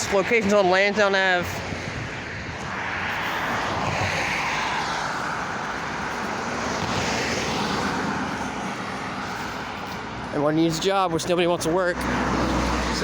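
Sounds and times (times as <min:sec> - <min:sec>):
vehicles passing close by: 0:00.0 - 0:13.0.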